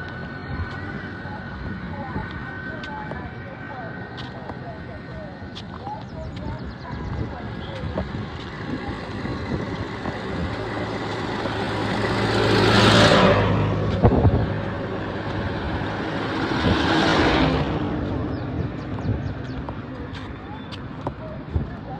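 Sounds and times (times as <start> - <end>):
vehicles passing by: 0.0 - 21.9.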